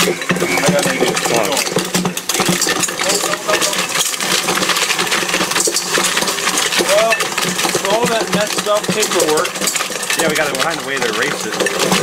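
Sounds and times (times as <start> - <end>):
hard pieces clattering in steel bowl: 0.0 - 12.0
stand mixer motor hum: 0.0 - 12.0.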